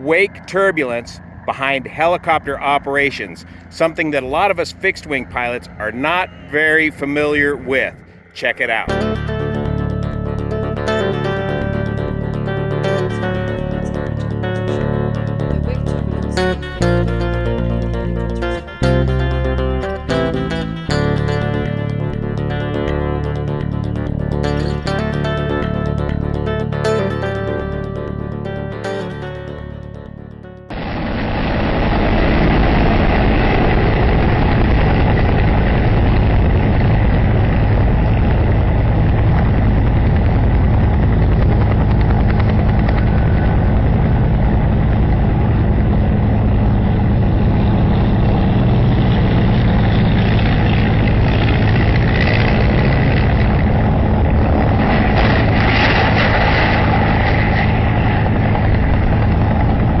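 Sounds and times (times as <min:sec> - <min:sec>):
helicopter rotor and engine drone: 0:00.0 - 1:00.0.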